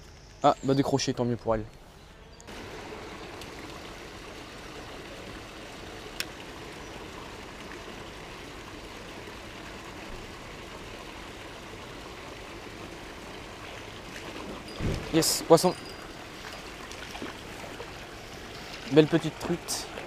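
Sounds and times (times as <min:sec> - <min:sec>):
stream running water: 0:02.5 - 0:20.0.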